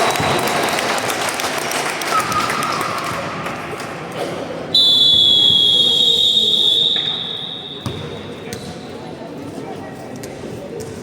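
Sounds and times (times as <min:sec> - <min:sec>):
gym crowd din: 0:00.0 - 0:11.0.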